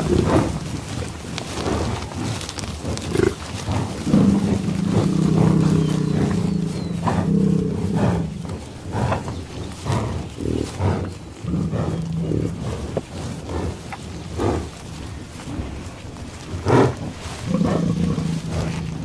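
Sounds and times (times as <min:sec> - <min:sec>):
grass being torn and chewed: 0:00.0 - 0:19.0
low snoring rumble: 0:00.0 - 0:19.0.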